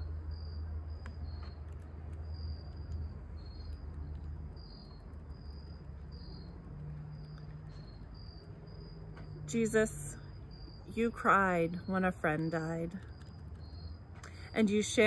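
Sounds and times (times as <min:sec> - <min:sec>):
crickets chirping: 0:00.0 - 0:15.0
faint low hum: 0:00.0 - 0:15.0.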